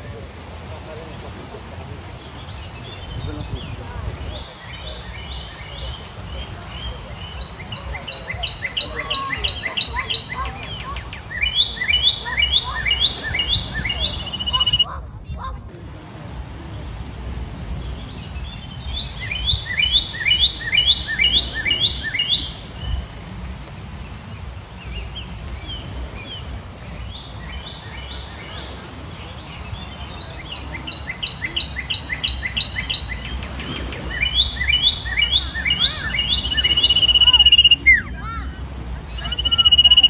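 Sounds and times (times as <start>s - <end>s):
bird chirping: 1.1s - 15.0s, 17.8s - 23.1s, 23.8s - 38.2s, 39.1s - 40.0s.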